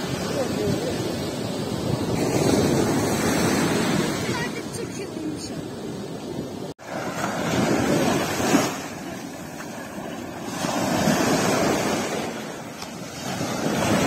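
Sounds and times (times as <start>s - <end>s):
small waves breaking on beach: 0.0s - 14.0s.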